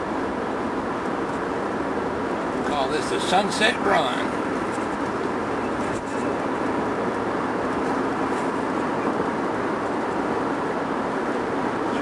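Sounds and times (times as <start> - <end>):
car road noise: 0.0 - 12.0
freight train rumbling: 0.0 - 12.0.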